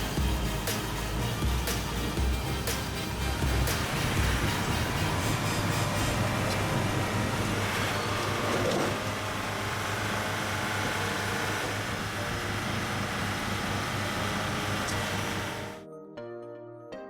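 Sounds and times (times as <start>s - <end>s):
heavy machine engine running: 0.0s - 15.8s.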